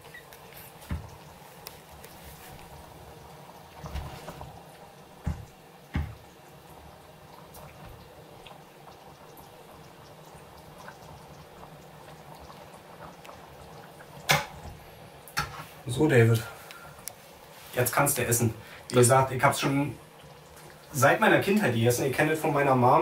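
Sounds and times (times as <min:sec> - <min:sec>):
liquid pouring and dripping: 0:00.0 - 0:15.8, 0:16.4 - 0:22.7.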